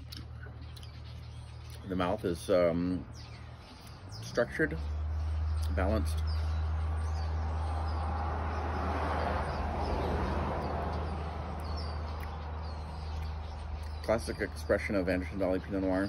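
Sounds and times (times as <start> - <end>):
small birds chirping: 0.0 - 16.0
vehicle passing: 1.3 - 16.0.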